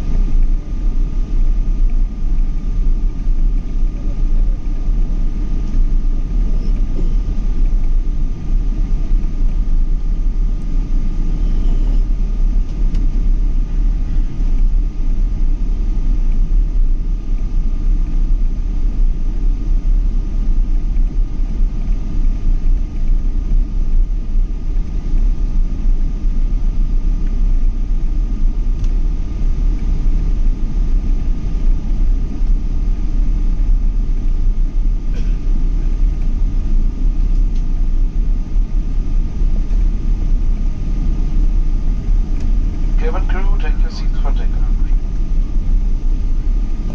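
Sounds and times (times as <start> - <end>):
high engine whine: 0.0 - 46.9
jet airliner engine rumble: 0.0 - 46.9.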